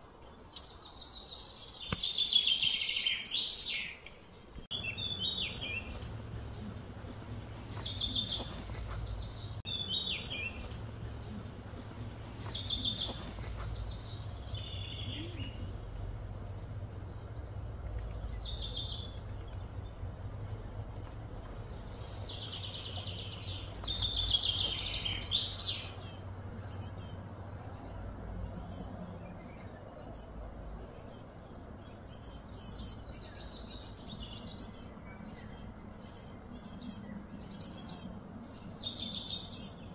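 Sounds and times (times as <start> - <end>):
bird chirps and trills: 0.0 - 39.9
steady low hum: 4.3 - 39.9.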